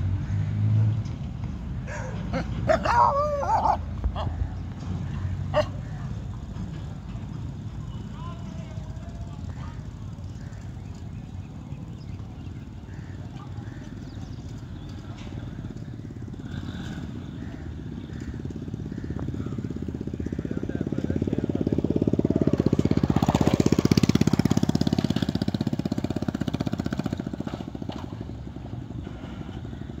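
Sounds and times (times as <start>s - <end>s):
vehicle engine passing by: 0.0s - 30.0s.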